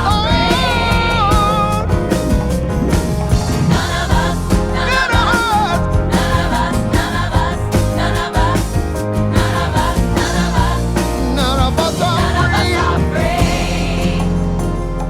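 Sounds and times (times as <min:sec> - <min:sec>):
soul-pop song from vinyl record: 0:00.0 - 0:15.0.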